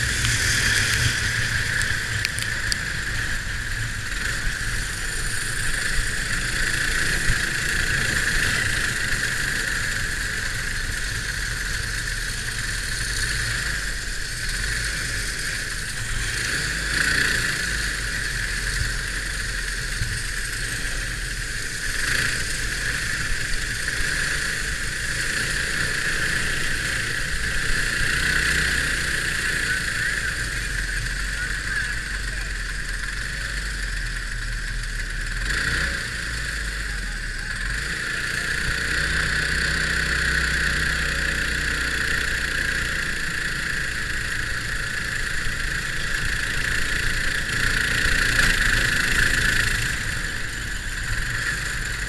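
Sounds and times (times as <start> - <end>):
go-kart engine: 0.0 - 52.0.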